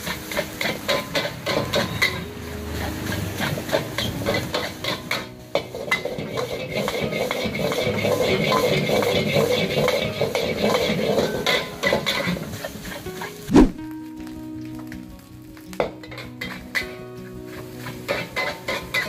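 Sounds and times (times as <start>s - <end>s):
utensils clanging against a wok: 0.0s - 13.5s, 15.8s - 19.0s
food sizzling in oil: 0.0s - 19.0s.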